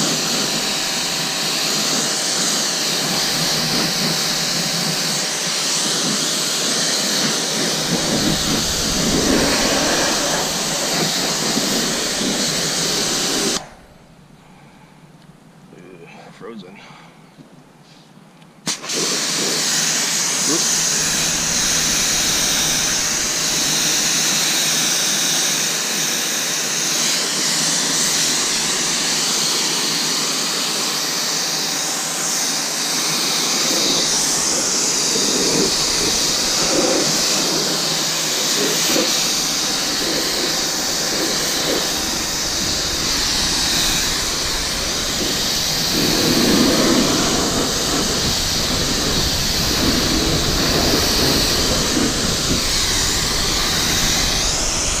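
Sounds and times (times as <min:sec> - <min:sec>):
pressure washer spraying: 0:00.0 - 0:13.9, 0:18.7 - 0:55.0.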